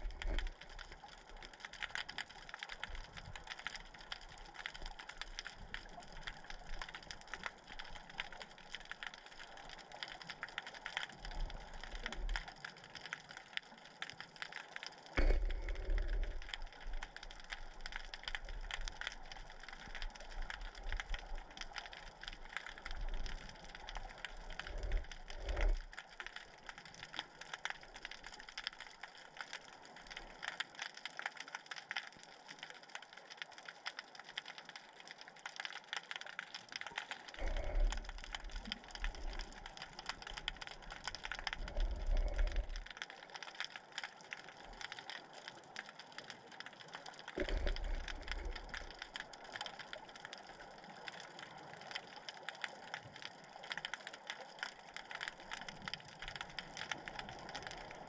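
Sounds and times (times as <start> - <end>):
low underwater rumbles: 0.0 - 30.7, 35.8 - 58.0
underwater crackle of clicks: 0.0 - 58.0.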